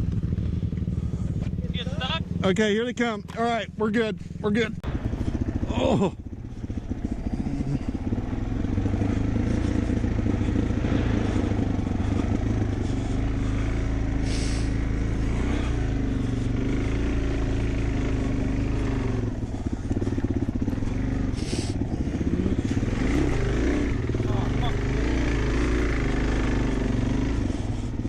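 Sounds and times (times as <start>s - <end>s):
dirt bike engine idling: 0.0s - 28.0s.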